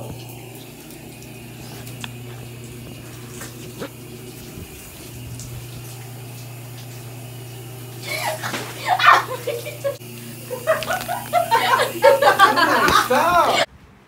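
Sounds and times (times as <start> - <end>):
shower water spraying: 0.0 - 13.7.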